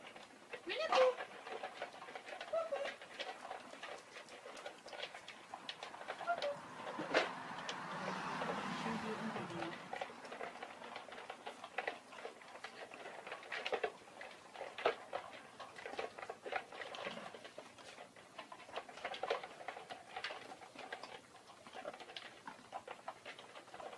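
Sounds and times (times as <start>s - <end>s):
dogs eating from plastic bowls: 0.0s - 23.9s.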